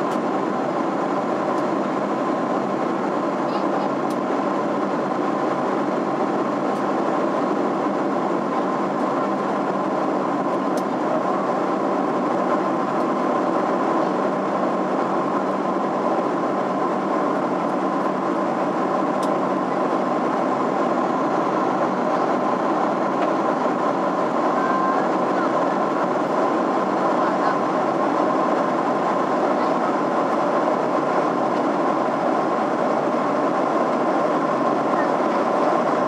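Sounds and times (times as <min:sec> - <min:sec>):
airliner cabin engine drone: 0:00.0 - 0:36.0.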